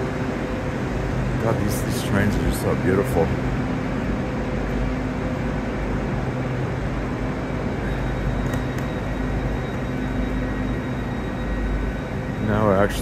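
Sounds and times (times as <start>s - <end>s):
idling train mechanical hum: 0.0s - 13.0s.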